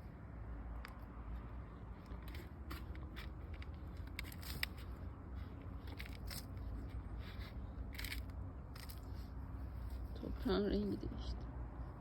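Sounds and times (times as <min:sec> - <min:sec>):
short crackles and scrapes: 0:00.8 - 0:10.6.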